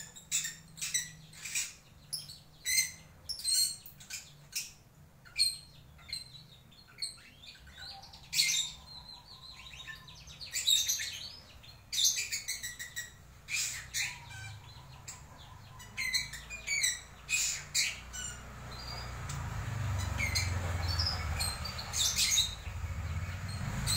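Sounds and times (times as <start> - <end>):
lovebird chirping: 0.0 - 23.9.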